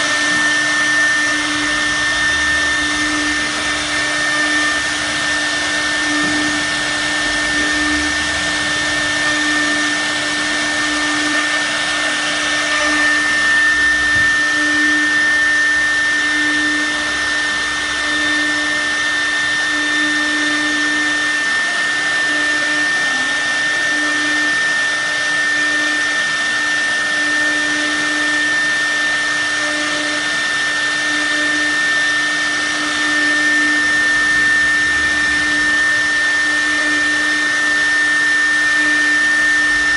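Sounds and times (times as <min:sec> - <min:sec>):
electric spindle whining: 0:00.0 - 0:39.9.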